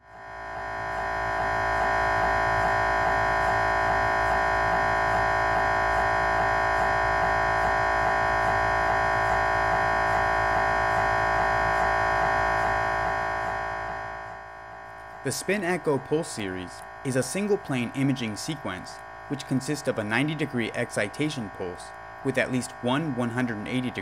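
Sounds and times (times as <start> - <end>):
mri scanner buzzing drone: 0.0 - 24.0.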